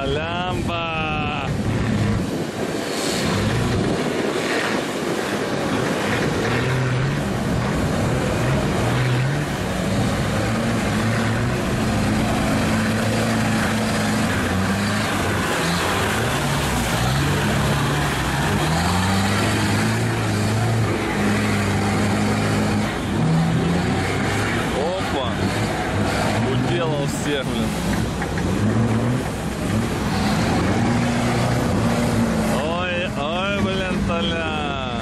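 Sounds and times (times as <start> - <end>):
off-road engine revving: 0.0 - 35.0.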